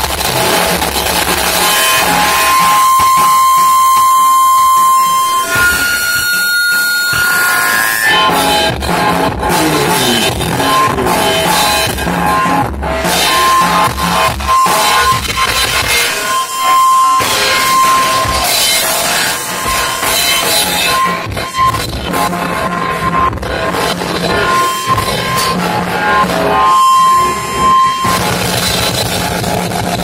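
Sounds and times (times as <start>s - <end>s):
rock music with drums and guitar: 0.0s - 30.0s.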